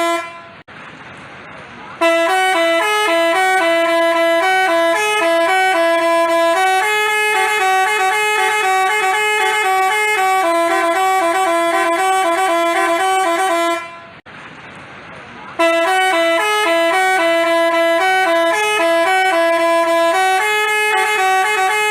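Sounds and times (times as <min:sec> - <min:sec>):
bus horn playing a tune: 0:00.0 - 0:00.7, 0:02.0 - 0:14.2, 0:15.6 - 0:21.9.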